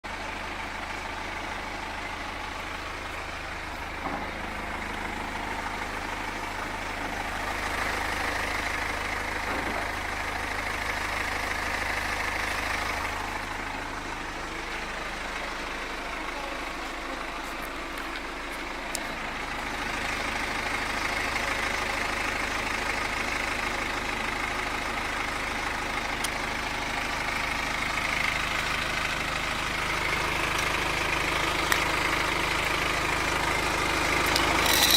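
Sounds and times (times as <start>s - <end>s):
diesel engine idling: 0.0s - 34.9s
strange engine noise: 0.0s - 34.9s.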